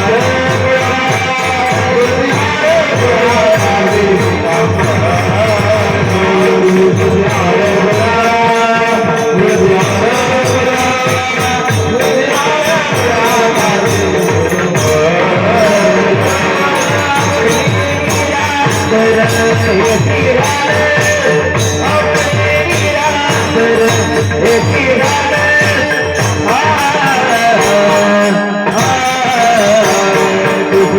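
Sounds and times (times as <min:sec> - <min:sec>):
fast drum beat: 0:00.0 - 0:30.9
jingling hand cymbals: 0:00.0 - 0:30.9.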